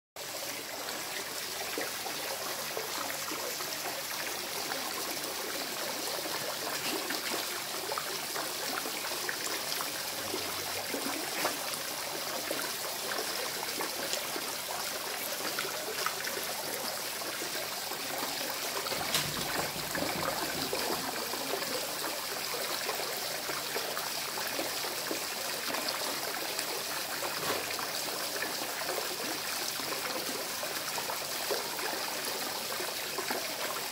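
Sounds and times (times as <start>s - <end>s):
trickling pond water: 0.2s - 33.9s.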